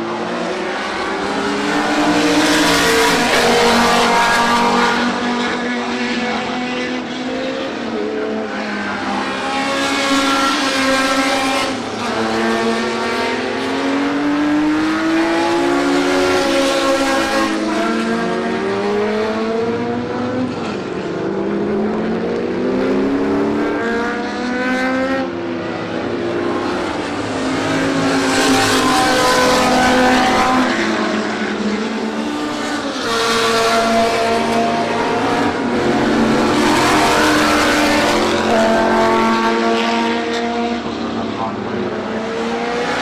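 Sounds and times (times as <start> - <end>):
cars passing close: 0.0 - 43.0
racing car engines revving: 0.0 - 43.0.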